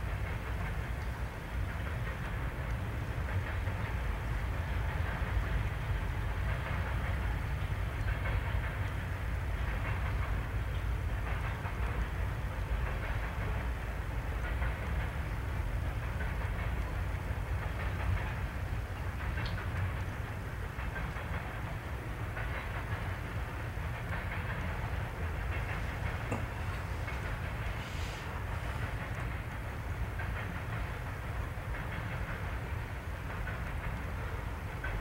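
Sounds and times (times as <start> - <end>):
steel wheels rumbling on rails: 0.0 - 35.0.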